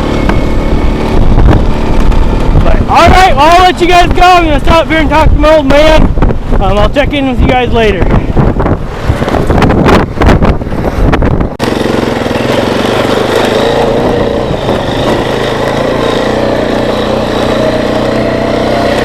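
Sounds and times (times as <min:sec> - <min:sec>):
vehicle engine running: 0:00.0 - 0:05.1, 0:08.8 - 0:19.0
wind buffeting microphone: 0:00.0 - 0:19.0.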